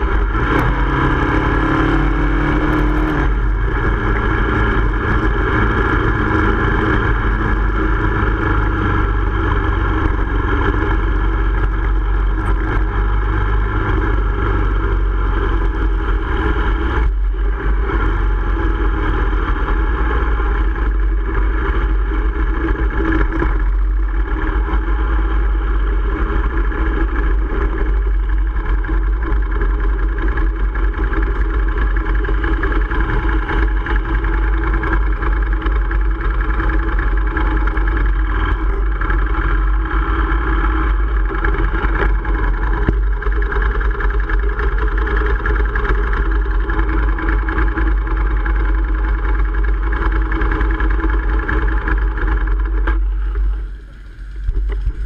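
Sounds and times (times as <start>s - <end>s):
motorcycle engine running slowly: 0.0s - 55.0s.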